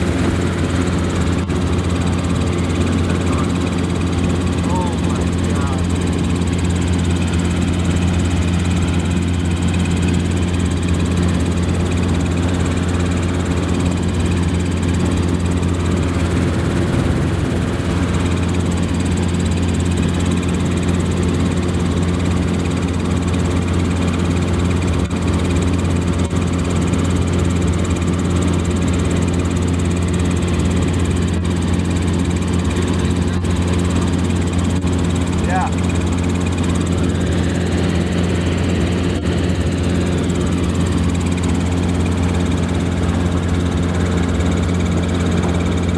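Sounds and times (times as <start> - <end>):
helicopter rotor and engine drone: 0.0 - 45.9.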